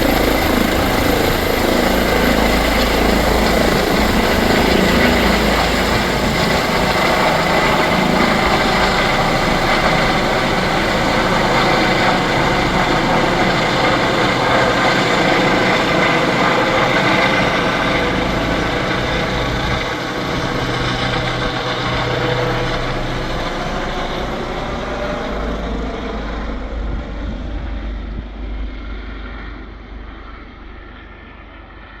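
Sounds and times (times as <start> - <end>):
helicopter engines and rotor: 0.0 - 32.0.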